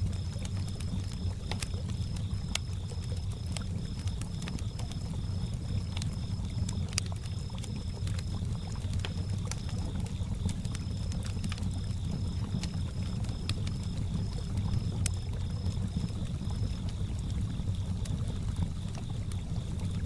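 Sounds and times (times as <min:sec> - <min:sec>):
campfire crackling: 0:00.0 - 0:20.0
crickets chirping: 0:00.0 - 0:20.0.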